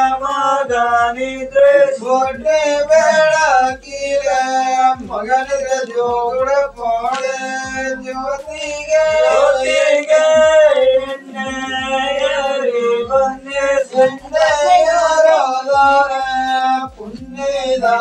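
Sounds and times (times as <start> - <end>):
men singing folk song: 0.0 - 18.0.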